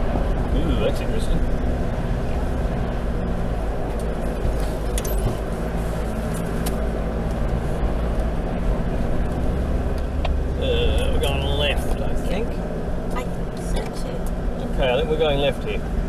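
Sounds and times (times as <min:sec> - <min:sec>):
vehicle engine and tyres droning: 0:00.0 - 0:16.0.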